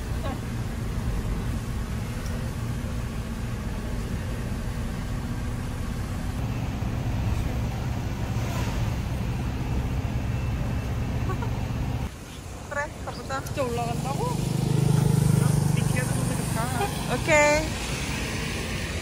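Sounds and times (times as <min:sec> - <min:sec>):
jeep engine running: 0:00.0 - 0:19.0.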